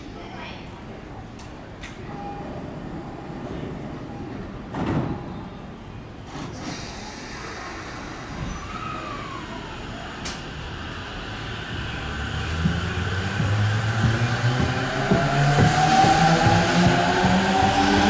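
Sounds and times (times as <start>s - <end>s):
electric train rumbling: 1.4s - 18.0s.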